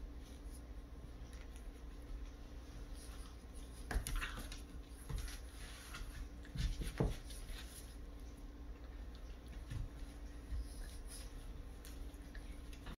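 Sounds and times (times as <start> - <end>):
dogs scuffling on a rug: 0.1 - 8.4, 9.0 - 12.9.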